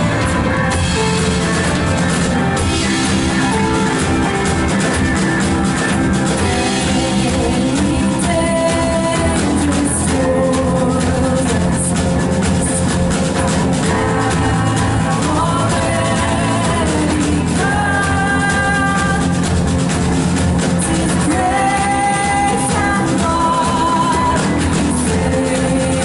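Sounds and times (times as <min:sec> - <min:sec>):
drum kit: 0:00.0 - 0:26.0
guitar: 0:00.0 - 0:26.0.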